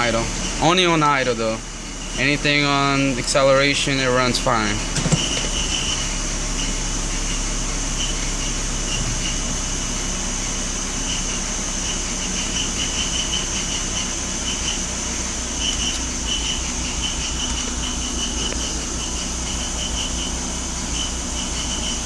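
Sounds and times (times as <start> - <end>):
car engine idling roughly: 0.0 - 22.0.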